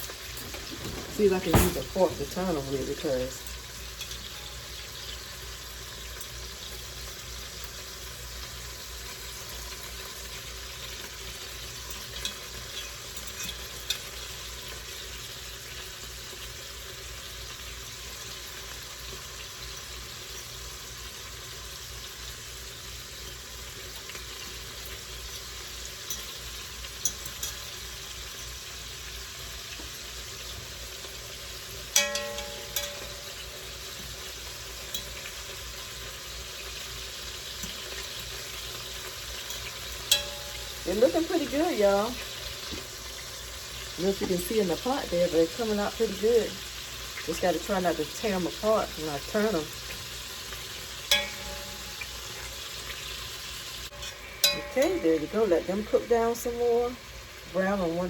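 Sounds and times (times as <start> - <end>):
meatballs sizzling in a pot: 0.0 - 58.0.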